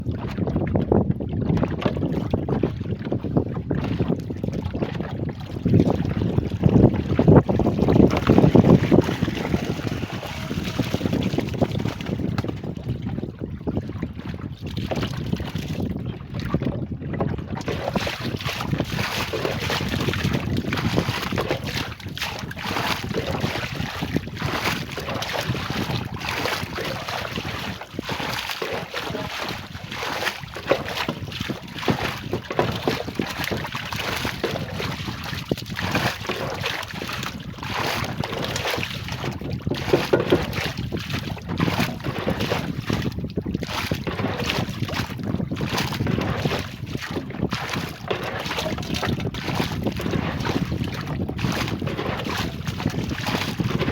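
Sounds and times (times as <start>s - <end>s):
water splashing and sloshing: 0.0s - 53.9s
wind buffeting microphone: 0.0s - 53.9s.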